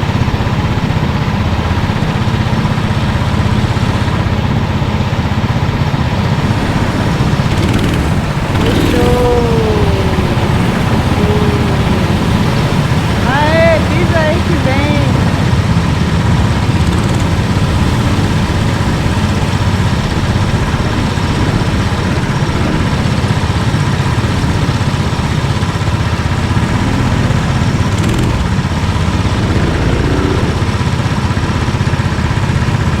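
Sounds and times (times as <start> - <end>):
kart engines droning: 0.0 - 33.0.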